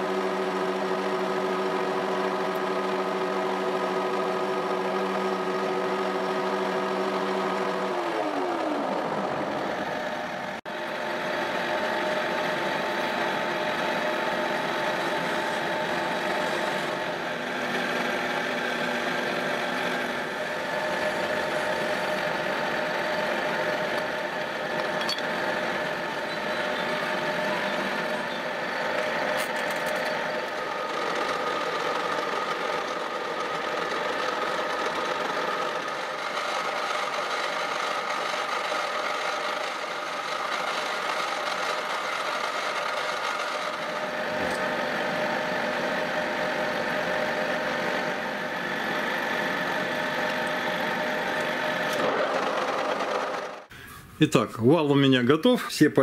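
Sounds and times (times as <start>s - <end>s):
metal lathe whining: 0.0s - 53.7s.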